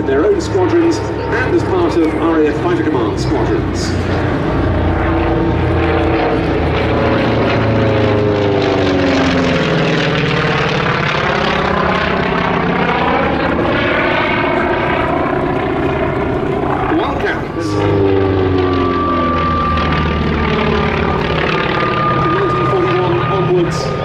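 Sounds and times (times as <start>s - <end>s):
propeller plane engine overhead: 0.0s - 24.0s.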